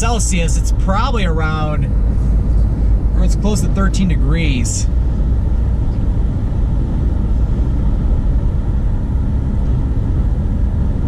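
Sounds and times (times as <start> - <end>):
car tyre and engine noise: 0.0 - 11.0.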